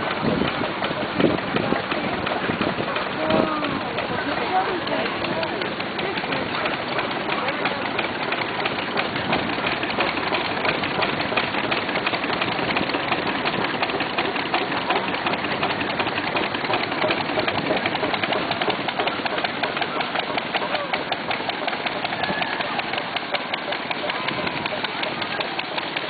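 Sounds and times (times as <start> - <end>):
steam engine clattering: 0.0 - 26.0.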